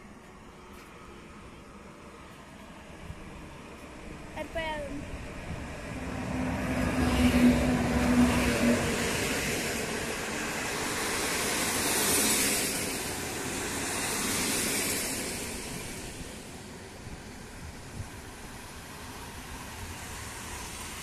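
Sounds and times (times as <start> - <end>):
electric locomotive humming: 0.0 - 21.0
train wheels rushing over rails: 0.0 - 21.0.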